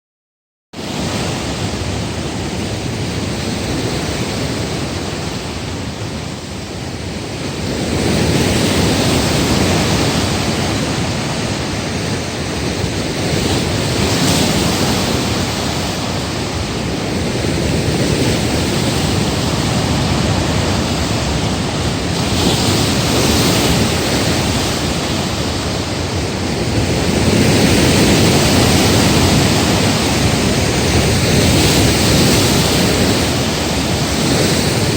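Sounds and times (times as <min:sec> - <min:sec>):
waves breaking against breakwater: 0:00.8 - 0:34.9
wind noise on microphone: 0:00.8 - 0:34.9.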